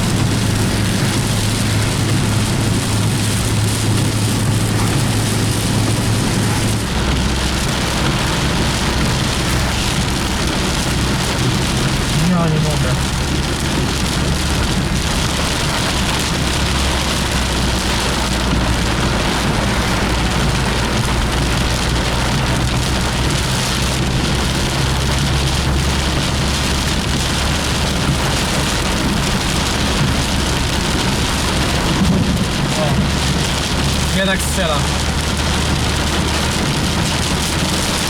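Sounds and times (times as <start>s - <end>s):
heavy rain drumming on a car: 0.0s - 38.0s
low hum of a car: 0.0s - 38.0s.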